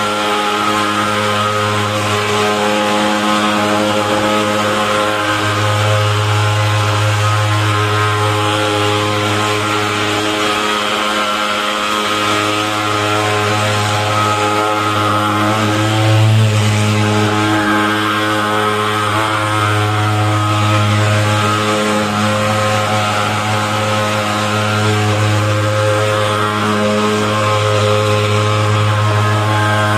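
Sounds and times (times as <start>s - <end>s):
fogging machine buzzing drone: 0.0s - 29.9s.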